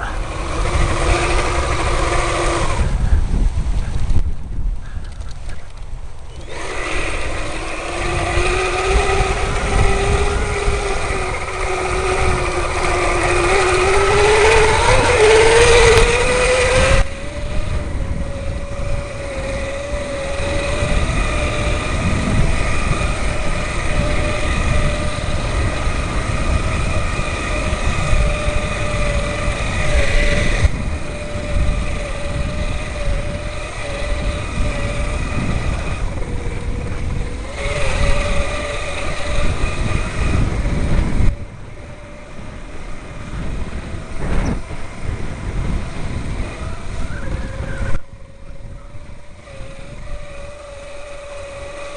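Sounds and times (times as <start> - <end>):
electric bike motor whining: 0.0 - 51.9
wind: 0.0 - 51.9.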